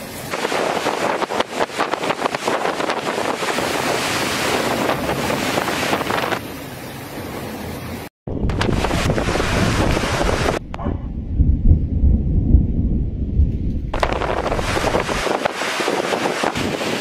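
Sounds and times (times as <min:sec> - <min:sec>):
heavy rain: 0:00.0 - 0:10.6, 0:13.9 - 0:17.0
wind gusting on microphone: 0:00.0 - 0:17.0.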